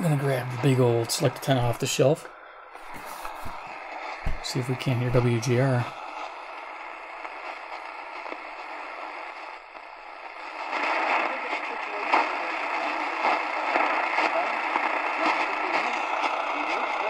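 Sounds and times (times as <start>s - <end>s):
faint radio voices: 0.0s - 17.0s
radio static hiss: 0.0s - 17.0s.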